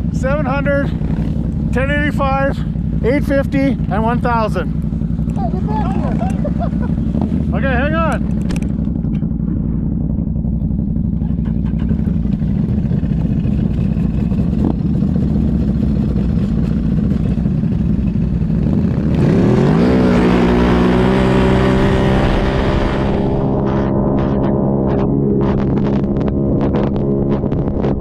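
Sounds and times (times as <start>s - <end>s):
tracked vehicle engine revving: 0.0s - 28.0s.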